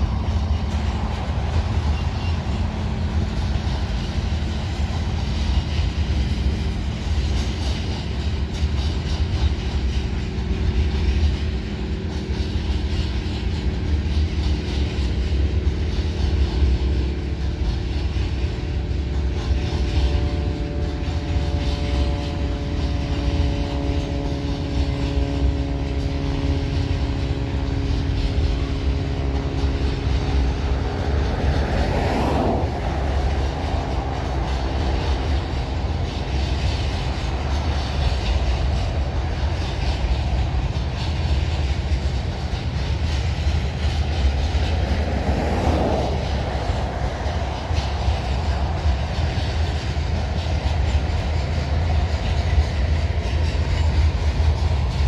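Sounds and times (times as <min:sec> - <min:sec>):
freight train rumbling past: 0:00.0 - 0:55.0
wheels clattering over rail joints: 0:00.0 - 0:55.0.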